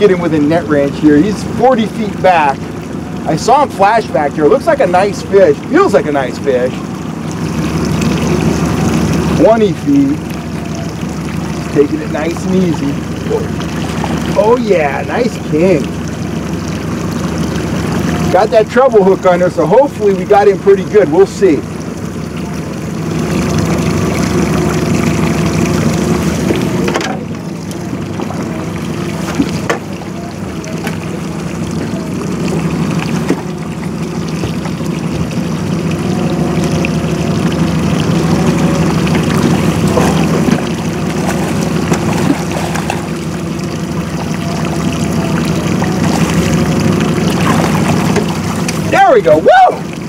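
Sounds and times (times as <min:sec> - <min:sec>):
fish splashing in water: 0:00.0 - 0:50.0
outboard motor running: 0:00.0 - 0:50.0.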